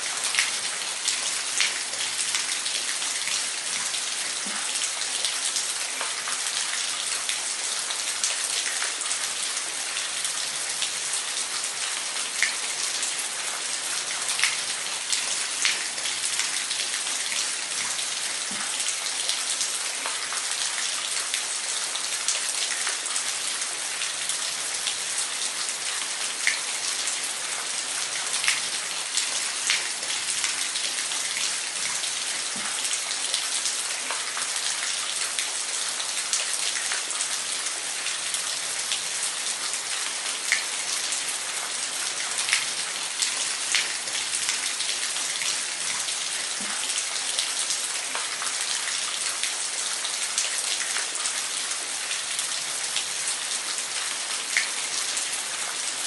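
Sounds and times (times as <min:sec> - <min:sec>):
water splashes and drips: 0:00.0 - 0:56.0.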